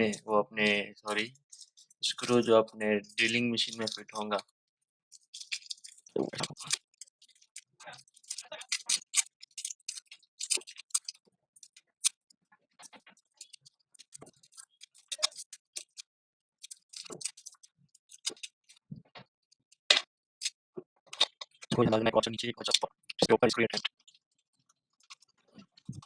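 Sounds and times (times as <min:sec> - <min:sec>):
small parts clicking and tapping: 0:01.0 - 0:02.5, 0:03.1 - 0:04.5, 0:05.1 - 0:26.0.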